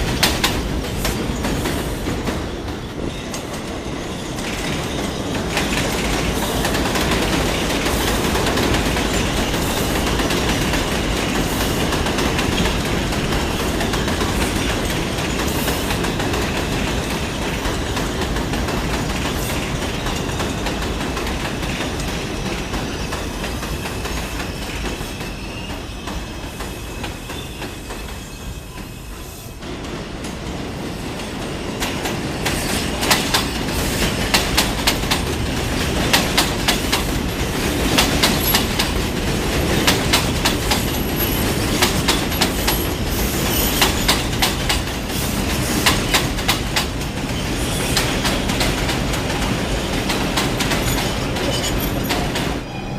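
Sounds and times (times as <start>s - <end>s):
subway train moving: 0.0s - 52.9s.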